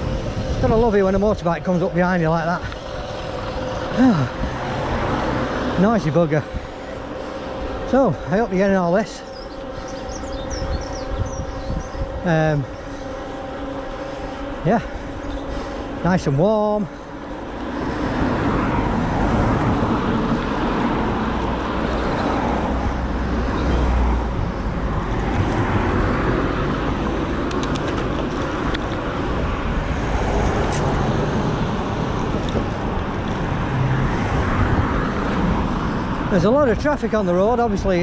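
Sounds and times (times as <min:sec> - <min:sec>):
road traffic passing: 0:00.0 - 0:38.0
wind and road noise: 0:00.0 - 0:38.0.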